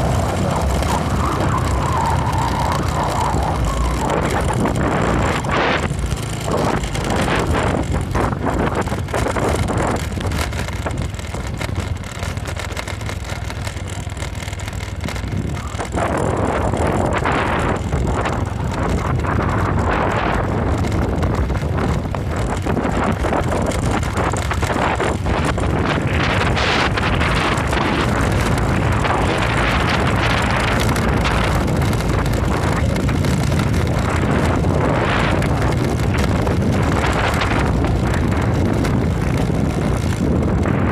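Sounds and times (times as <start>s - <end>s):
motorcycle engine running: 0.0s - 40.9s
wind noise on microphone: 0.0s - 40.9s.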